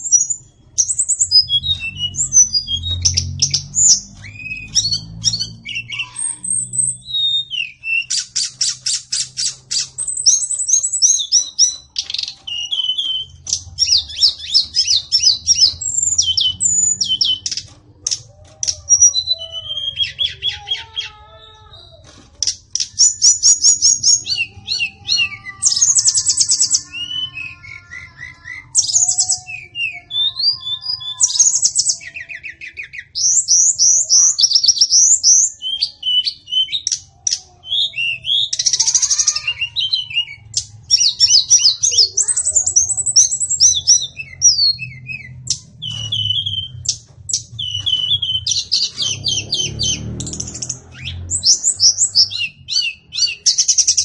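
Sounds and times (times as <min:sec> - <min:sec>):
bird singing whistles and trills: 0:00.0 - 0:20.8, 0:22.7 - 0:54.0.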